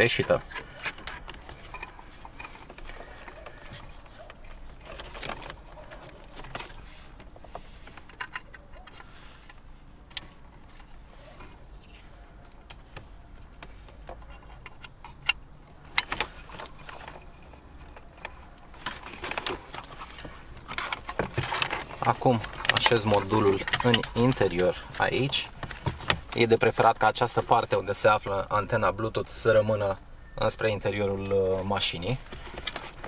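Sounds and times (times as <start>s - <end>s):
cables rustling: 0.0s - 29.6s, 30.6s - 33.0s.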